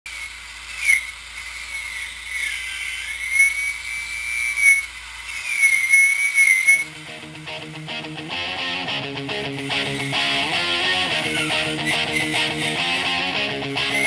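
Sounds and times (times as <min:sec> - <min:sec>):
angle grinder wire wheel whining: 0:00.1 - 0:07.0, 0:09.4 - 0:14.0.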